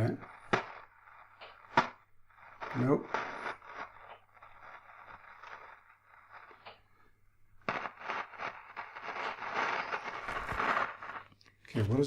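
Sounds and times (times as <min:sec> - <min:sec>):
radio static and hiss: 0:00.0 - 0:06.9, 0:07.6 - 0:12.0.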